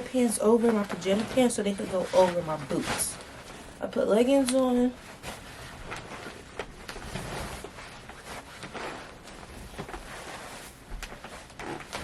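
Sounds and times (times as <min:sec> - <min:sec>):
clothing rustling: 0:00.0 - 0:12.0.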